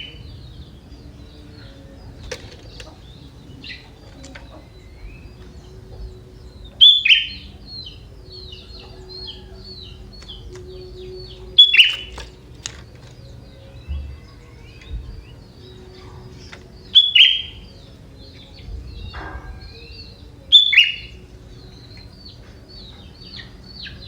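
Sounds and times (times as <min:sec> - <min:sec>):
bulbul singing: 0:00.0 - 0:24.0.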